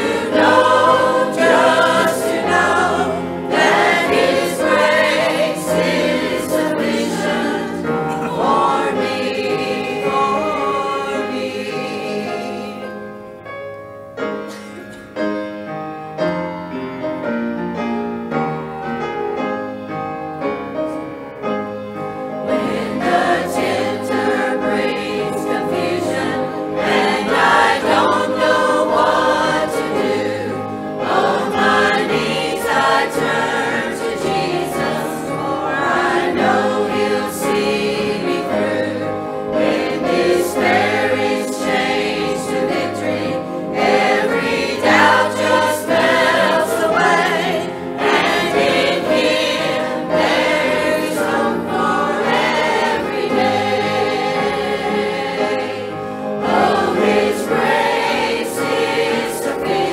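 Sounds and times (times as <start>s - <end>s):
group of voices singing: 0.0s - 13.1s, 22.4s - 59.9s
piano playing a hymn: 0.0s - 59.9s.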